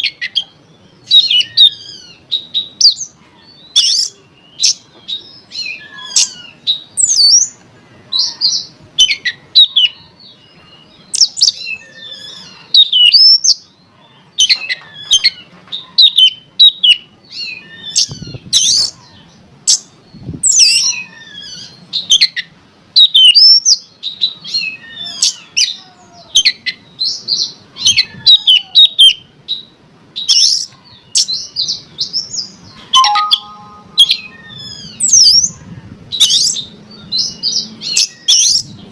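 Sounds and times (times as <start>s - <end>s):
songbird singing chirps and whistles: 0.0s - 35.6s.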